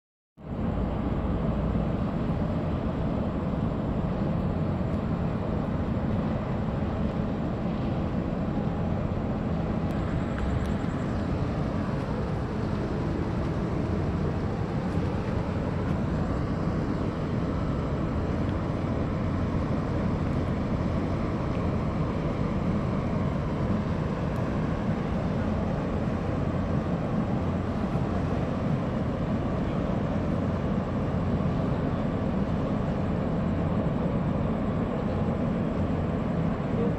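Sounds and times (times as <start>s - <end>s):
ship engines rumbling: 0.4s - 36.9s.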